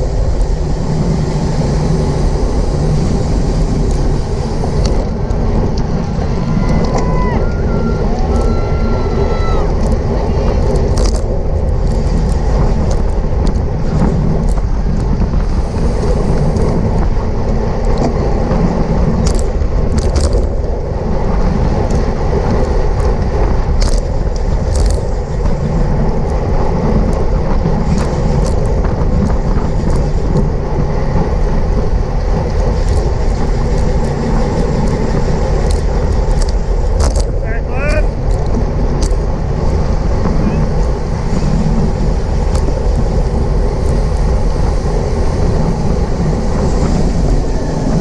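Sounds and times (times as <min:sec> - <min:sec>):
bicycle road noise: 0:00.0 - 0:48.0
wind rush: 0:00.0 - 0:48.0.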